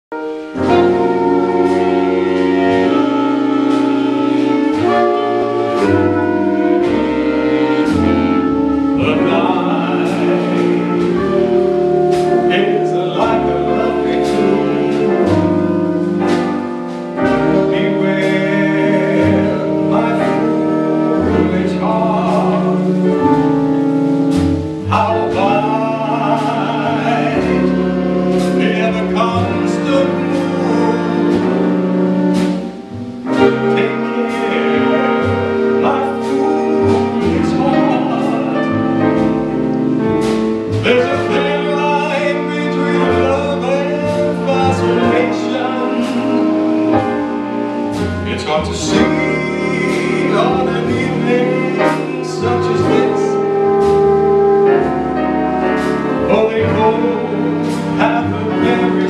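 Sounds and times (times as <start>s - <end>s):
jazz band playing slow ballad: 0.1s - 59.0s.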